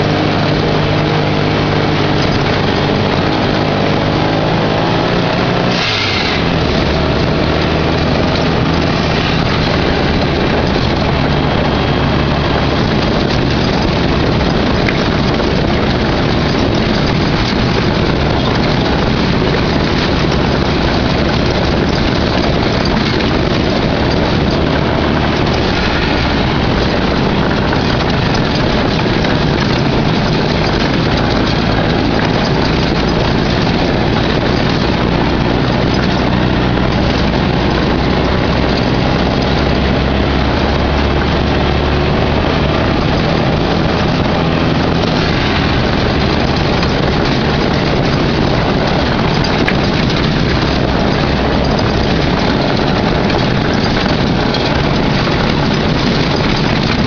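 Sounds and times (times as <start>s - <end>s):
buggy engine running: 0.0s - 57.0s
driving over rocky trail: 0.0s - 57.0s.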